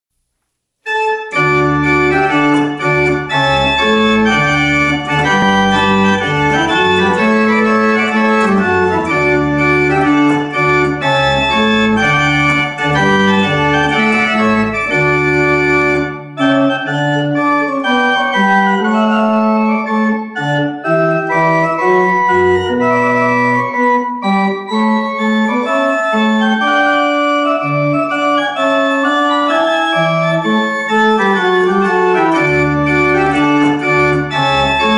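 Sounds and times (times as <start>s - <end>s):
low organ pedal bass notes: 0.9s - 34.9s
pipe organ chords: 0.9s - 34.9s.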